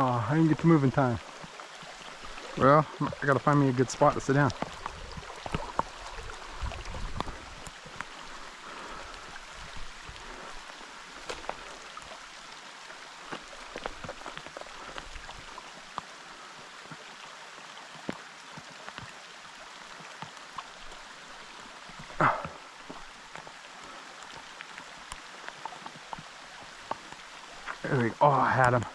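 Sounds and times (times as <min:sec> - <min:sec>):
rain falling: 0:00.0 - 0:28.9
raindrops ticking: 0:00.0 - 0:28.9.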